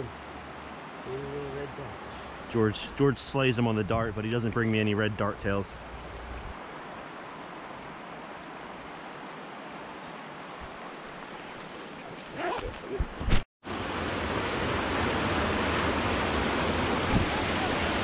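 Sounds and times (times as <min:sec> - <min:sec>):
mountain stream rushing: 0:00.0 - 0:13.0, 0:13.7 - 0:18.0.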